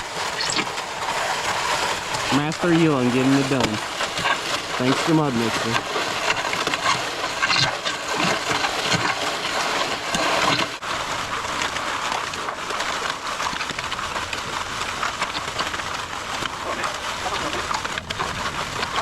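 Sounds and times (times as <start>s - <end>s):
wet concrete pouring: 0.0s - 19.0s.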